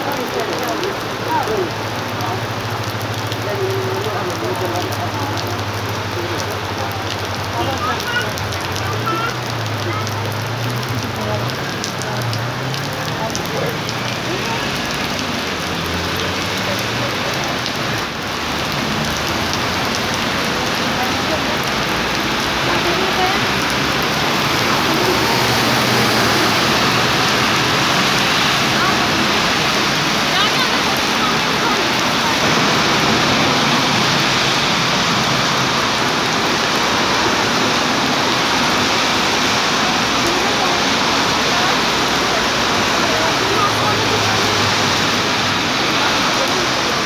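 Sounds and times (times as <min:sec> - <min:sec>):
heavy rain on stone paving: 0:00.0 - 0:47.0.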